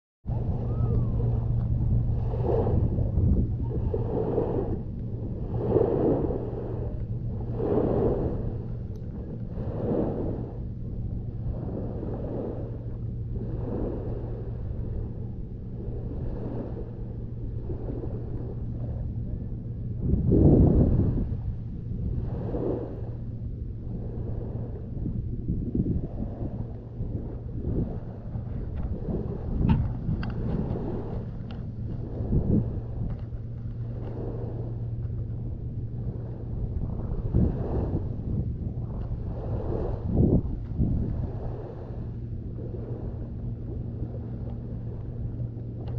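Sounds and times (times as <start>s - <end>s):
steady low rumble: 0.2s - 45.9s
wind buffeting microphone: 0.2s - 45.9s
small waves washing onto sand: 0.3s - 10.7s, 11.3s - 15.2s, 20.0s - 23.2s, 25.8s - 45.9s.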